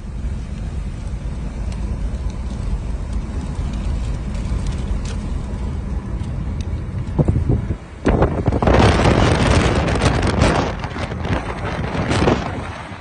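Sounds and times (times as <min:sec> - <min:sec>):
car interior driving rumble: 0:00.0 - 0:13.0.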